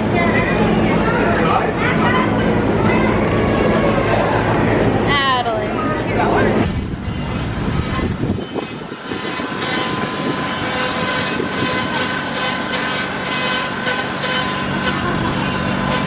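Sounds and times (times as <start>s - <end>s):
machine hum with whine: 0.0s - 16.0s.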